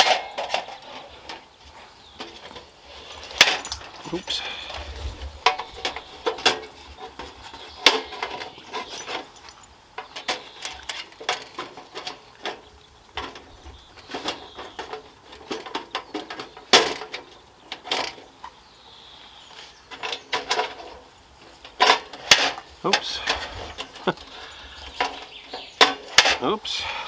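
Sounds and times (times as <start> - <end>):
metal camping stove parts clinking: 0.0 - 18.2, 21.6 - 27.0.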